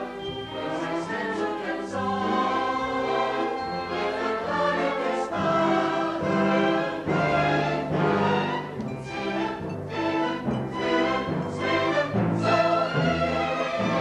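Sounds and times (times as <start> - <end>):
chorus singing: 0.0 - 14.0
orchestral accompaniment: 0.0 - 14.0.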